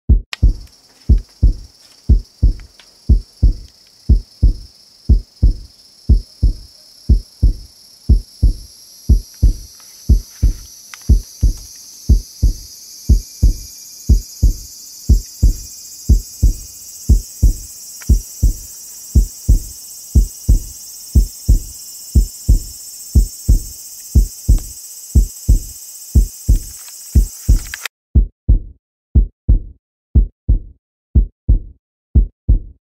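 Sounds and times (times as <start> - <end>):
heartbeat thumps: 0.1 - 32.8.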